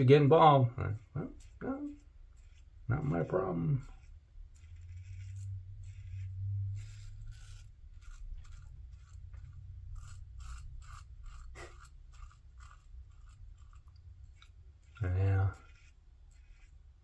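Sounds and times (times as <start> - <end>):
razor scraping through stubble: 0.0 - 17.0.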